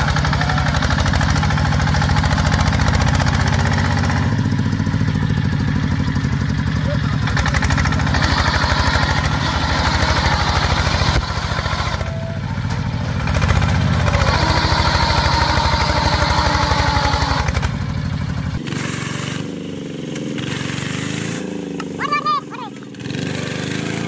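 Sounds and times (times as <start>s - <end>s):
diesel engine chugging under load: 0.0s - 24.0s.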